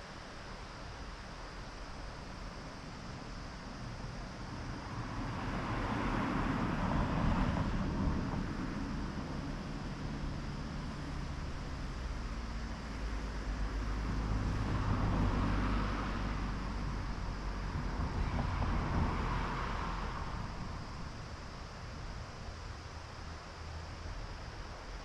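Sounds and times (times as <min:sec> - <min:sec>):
vehicles passing by: 0:04.6 - 0:24.8.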